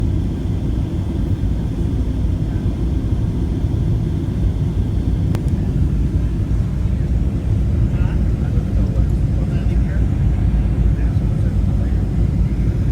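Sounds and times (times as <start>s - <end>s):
airplane engines rumbling: 0.0s - 12.9s.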